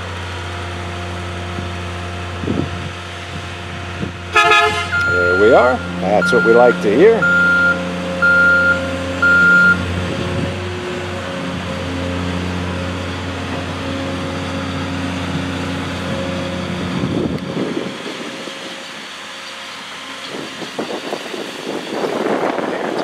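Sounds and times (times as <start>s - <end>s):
diesel engine hum: 0.0s - 23.0s
rushing noise: 1.7s - 23.0s.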